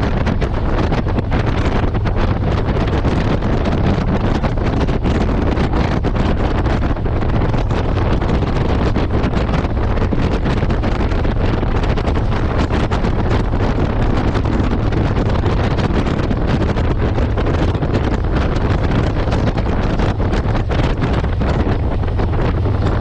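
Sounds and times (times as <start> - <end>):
motorcycle engine hum: 0.0 - 23.0
wind buffeting microphone: 0.0 - 23.0.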